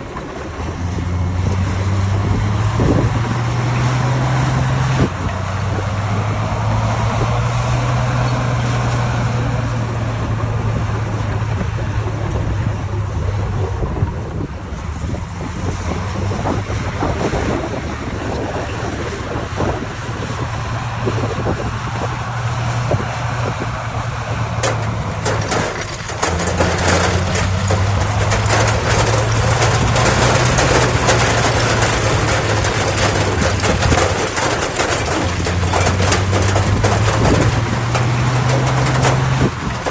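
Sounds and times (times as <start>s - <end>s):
gritty rattling and crackling: 0.0s - 39.9s
heavy machinery diesel engine: 0.0s - 39.9s.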